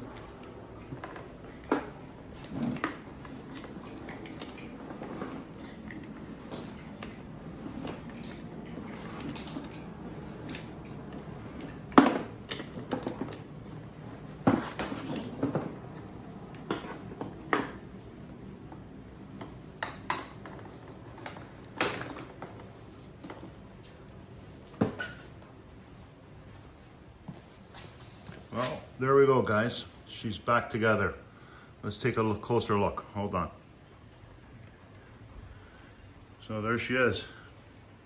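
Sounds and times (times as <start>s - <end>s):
low steady background noise: 0.0s - 38.0s.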